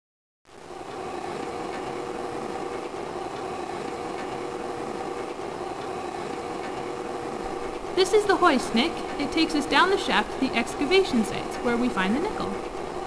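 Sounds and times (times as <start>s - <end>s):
mine machinery hum: 0.5s - 13.0s.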